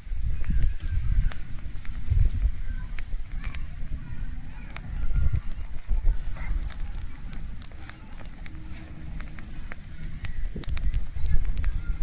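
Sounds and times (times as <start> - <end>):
campfire crackling and popping: 0.0 - 12.0
low rumble: 0.2 - 12.0.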